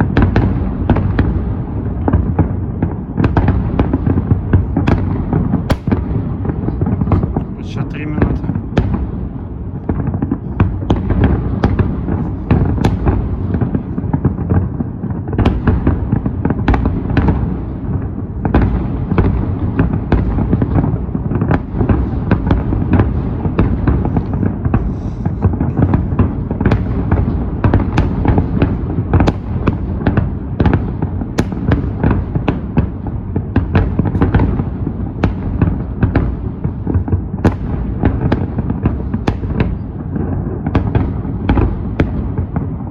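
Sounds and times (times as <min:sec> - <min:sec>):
deep firework booms: 0:00.0 - 0:42.9
sharp firework cracks: 0:00.0 - 0:42.9.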